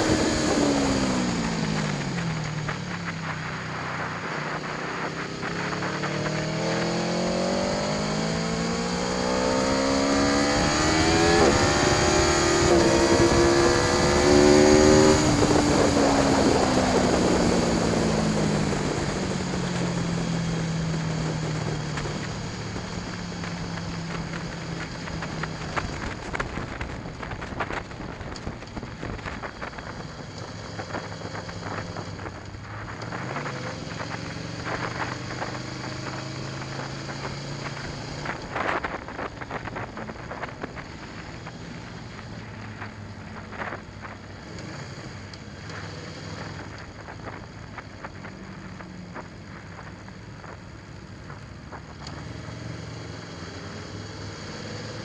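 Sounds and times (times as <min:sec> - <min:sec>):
wind noise on microphone: 0:00.0 - 0:52.8
motorcycle engine running: 0:00.0 - 0:55.0.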